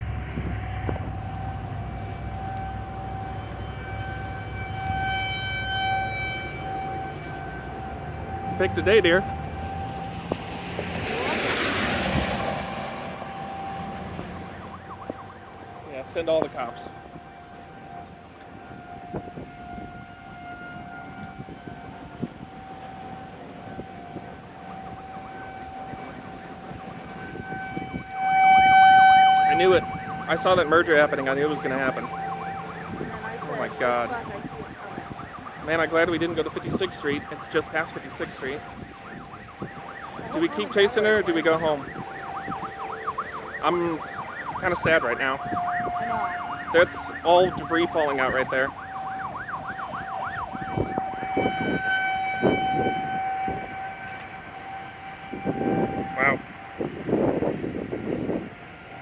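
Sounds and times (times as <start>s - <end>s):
tornado warning siren: 0.0s - 59.0s.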